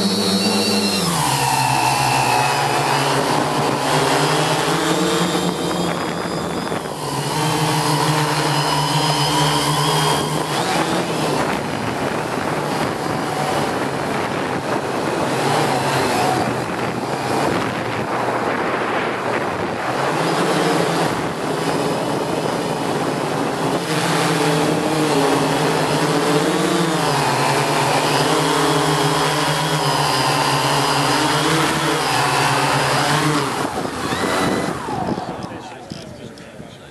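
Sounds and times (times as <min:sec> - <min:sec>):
drone motors whining: 0:00.0 - 0:36.8.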